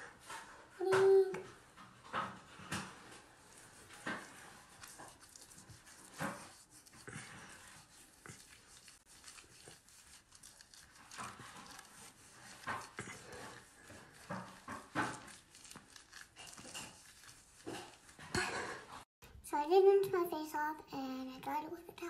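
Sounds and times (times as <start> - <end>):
brush scrubbing wet skin: 0.0 - 19.1.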